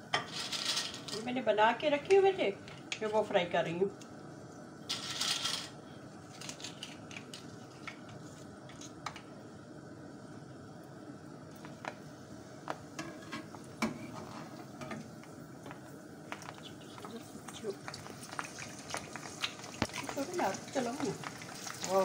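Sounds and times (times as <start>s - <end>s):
oil sizzling: 0.0s - 22.0s.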